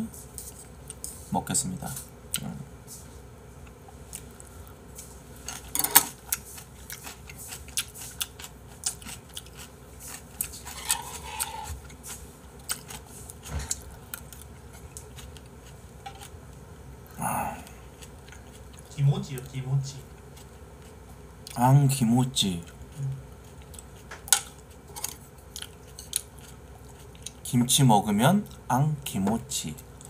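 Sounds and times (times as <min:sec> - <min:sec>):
chewing and crunching food: 0:03.6 - 0:30.0.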